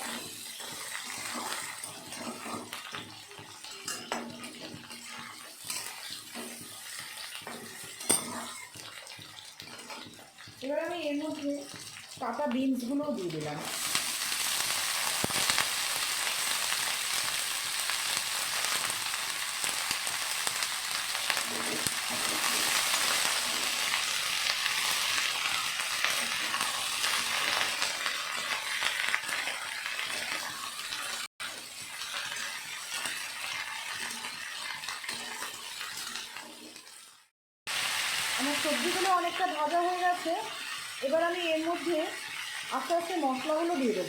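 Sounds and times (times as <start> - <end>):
vegetables sizzling in hot oil: 0.0 - 44.0.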